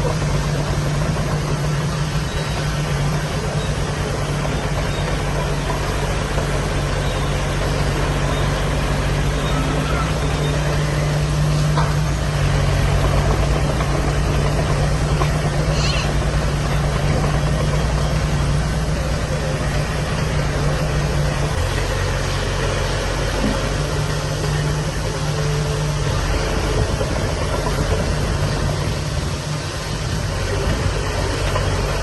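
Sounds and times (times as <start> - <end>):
heavy machinery diesel engine running: 0.0 - 32.0.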